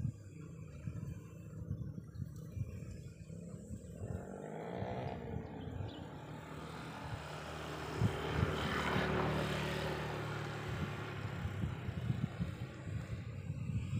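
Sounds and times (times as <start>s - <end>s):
motor vehicle passing by: 2.7s - 13.9s.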